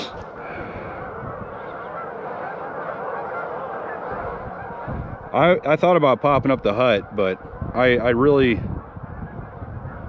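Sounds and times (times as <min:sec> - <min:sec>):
waterfowl honking: 0:00.0 - 0:10.0.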